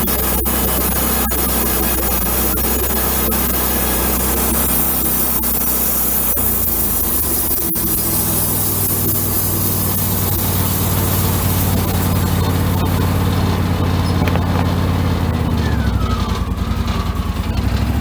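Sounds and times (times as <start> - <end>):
bandsaw cutting wood: 0.0 - 16.6.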